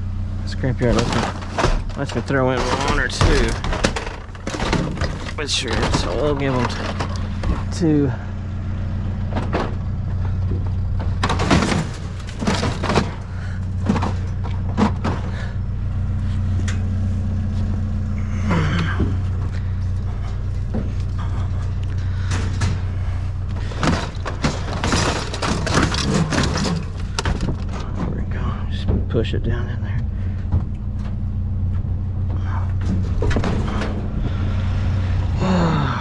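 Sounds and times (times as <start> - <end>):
vehicle engine idling: 0.0 - 36.0
plastic printers clunking and scraping: 0.5 - 8.2, 9.2 - 16.0, 18.5 - 35.3.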